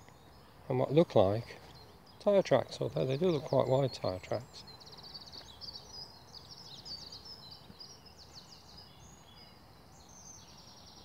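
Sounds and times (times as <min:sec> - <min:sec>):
low outdoor background hum: 0:00.0 - 0:11.0
small songbirds trilling: 0:00.0 - 0:11.0.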